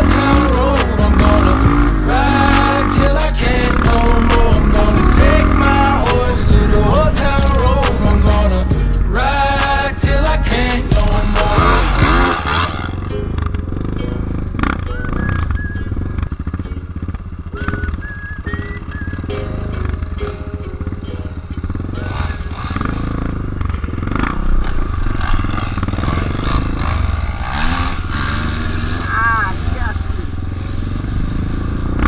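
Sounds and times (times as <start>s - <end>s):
dirt bike engines idling: 0.0s - 32.0s.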